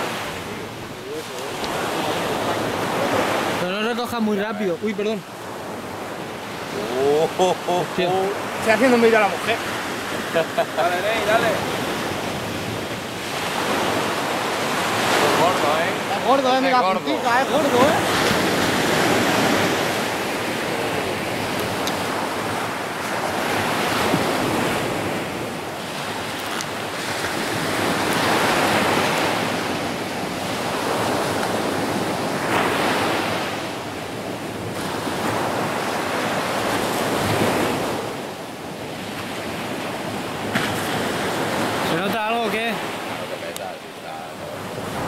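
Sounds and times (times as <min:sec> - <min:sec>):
surf breaking on shore: 0:00.0 - 0:45.0.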